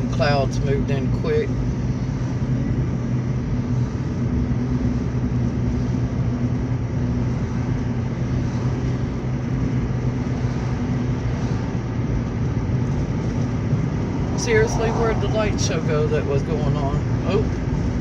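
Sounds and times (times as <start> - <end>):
car engine hum: 0.0 - 18.0
road noise: 0.0 - 18.0
ventilation noise: 0.0 - 18.0.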